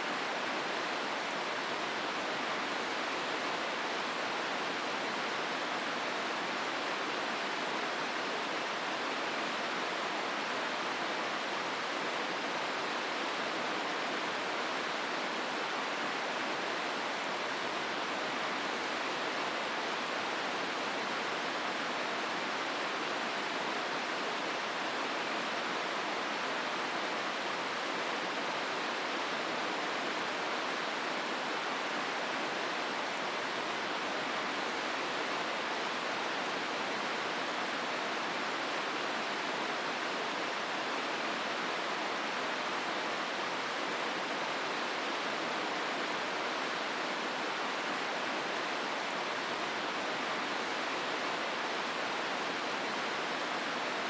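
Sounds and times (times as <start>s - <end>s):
river rushing through rocky gorge: 0.0s - 54.0s.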